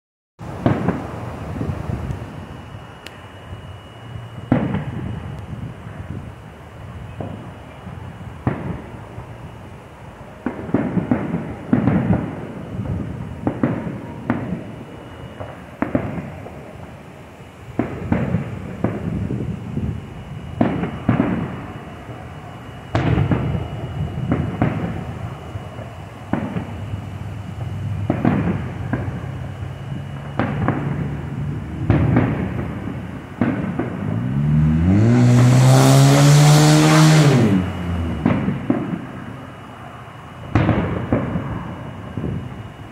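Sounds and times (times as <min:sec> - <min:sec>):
fireworks bursting: 0:00.4 - 0:42.9
loud motor-like drone: 0:06.9 - 0:42.9.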